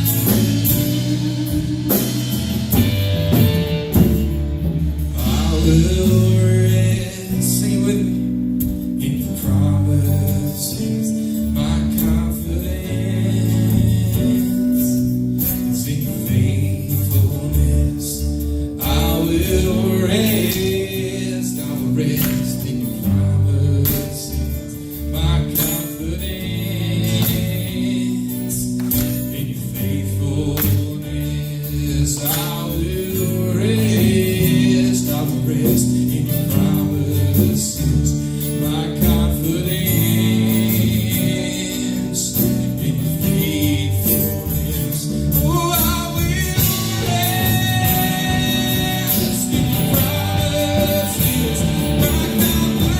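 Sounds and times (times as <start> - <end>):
voices singing gospel song: 0.0 - 4.2, 5.1 - 8.3, 9.0 - 15.0, 18.8 - 52.9
band with bass and drums: 0.0 - 52.9.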